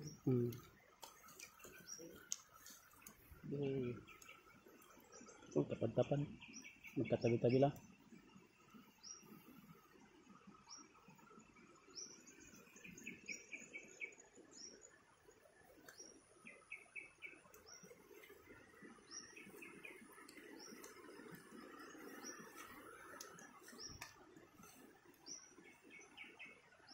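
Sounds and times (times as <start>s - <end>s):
birds chirping faintly: 0.0s - 26.9s.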